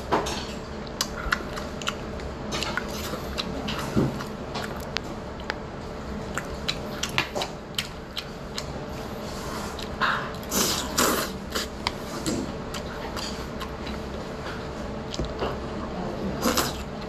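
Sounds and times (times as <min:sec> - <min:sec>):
chewing: 0:00.3 - 0:15.8.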